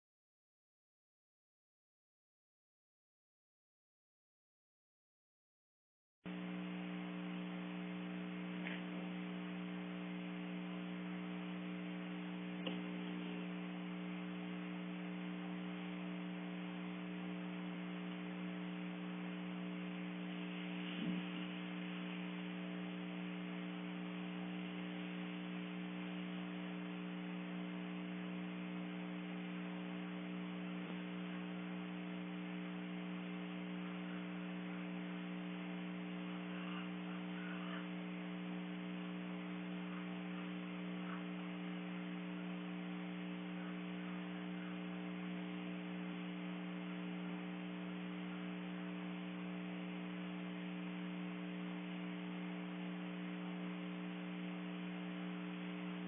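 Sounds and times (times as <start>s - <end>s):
low electrical hum: 6.3s - 56.0s.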